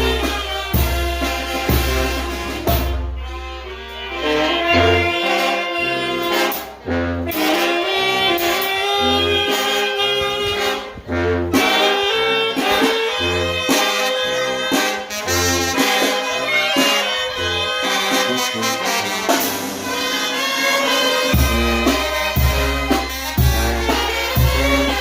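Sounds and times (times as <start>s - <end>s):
brass band playing: 0.0s - 25.0s.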